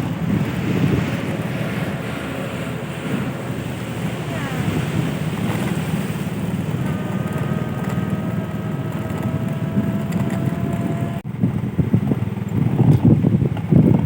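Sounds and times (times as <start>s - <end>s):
motor droning: 0.0s - 14.0s
wind buffeting microphone: 0.0s - 14.0s.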